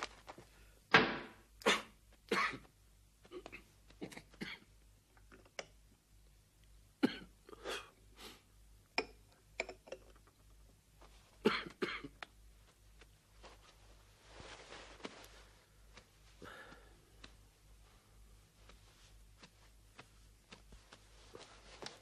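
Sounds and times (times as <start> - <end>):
movement about a room: 0.0 - 6.4, 9.8 - 22.0.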